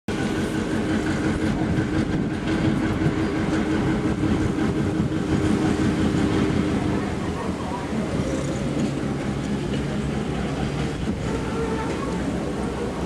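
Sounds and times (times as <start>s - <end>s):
diesel locomotive engine drone: 0.1s - 13.0s
wheels clicking on rails: 0.1s - 13.0s.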